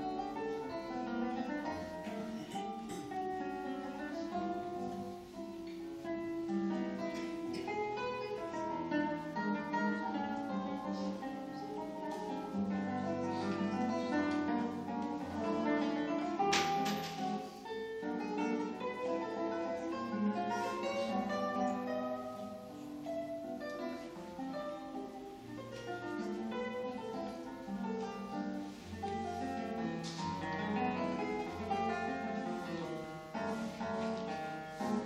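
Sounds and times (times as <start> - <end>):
classical guitar fingerstyle: 0.0 - 35.0.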